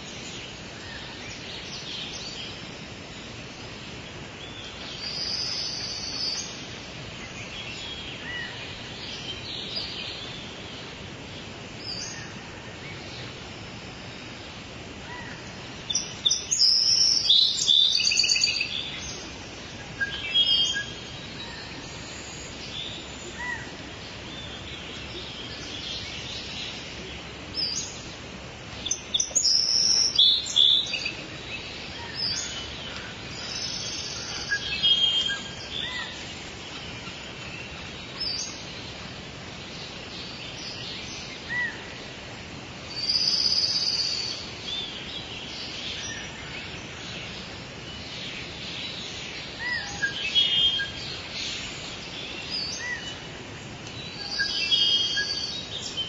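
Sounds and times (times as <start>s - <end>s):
steady background hiss: 0.0s - 56.0s
birds chirping and calling: 4.2s - 11.0s, 15.1s - 42.2s, 42.9s - 56.0s.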